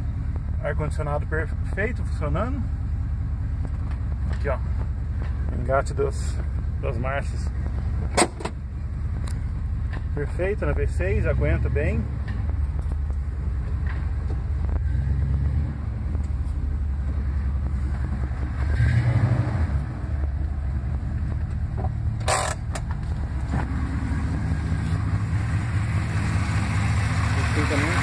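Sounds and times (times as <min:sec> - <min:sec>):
car engine idling: 0:00.0 - 0:19.0, 0:19.7 - 0:28.0.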